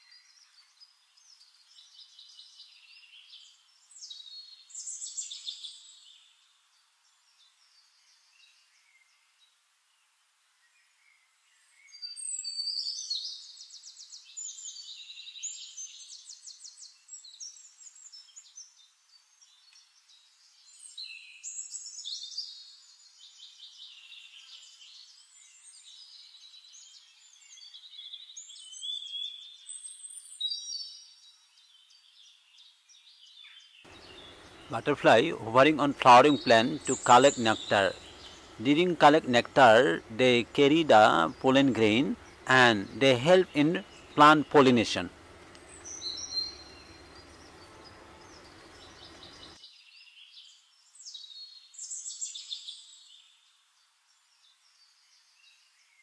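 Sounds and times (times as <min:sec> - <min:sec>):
birdsong with trills: 0:00.0 - 0:09.6, 0:10.6 - 0:56.0.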